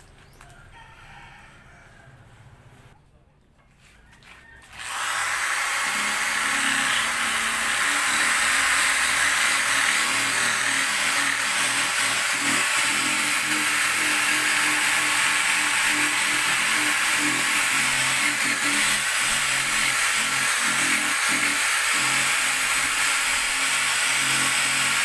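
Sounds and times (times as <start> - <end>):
electric polisher running: 4.7 - 25.0.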